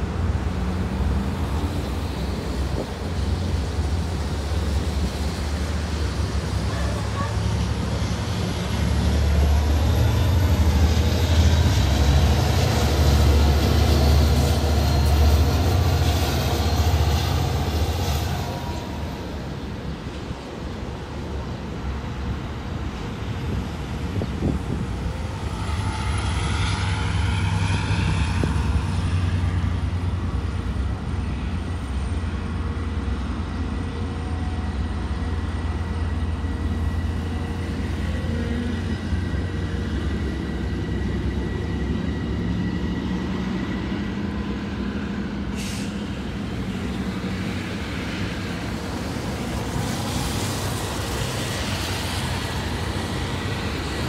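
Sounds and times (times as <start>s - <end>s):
low rumble of traffic: 0.0s - 54.0s.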